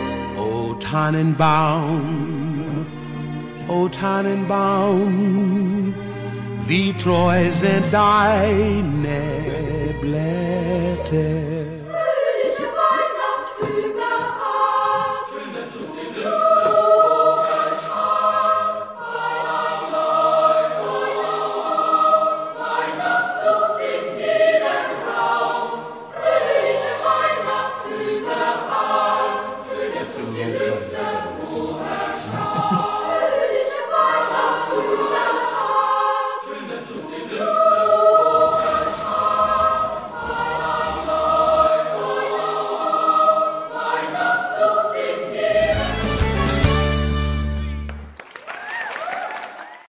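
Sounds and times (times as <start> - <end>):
choir singing held chords: 0.0 - 47.8.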